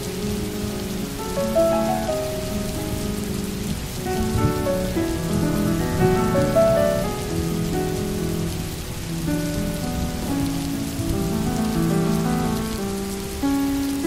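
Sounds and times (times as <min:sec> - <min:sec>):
soft slow melody: 0:00.0 - 0:14.0
steady rain hiss: 0:00.0 - 0:14.0.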